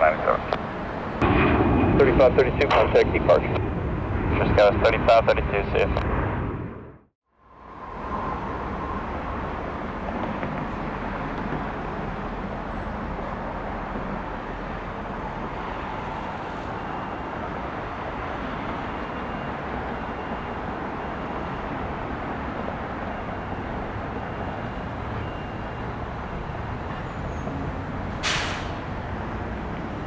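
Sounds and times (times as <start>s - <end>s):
jet engine noise: 0.0s - 30.0s.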